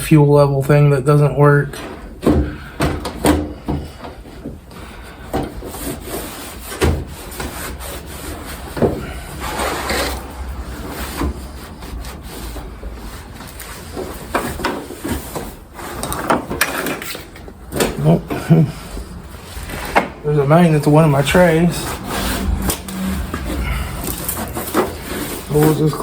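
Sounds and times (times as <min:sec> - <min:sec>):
rubbing and scraping: 0:03.1 - 0:26.0.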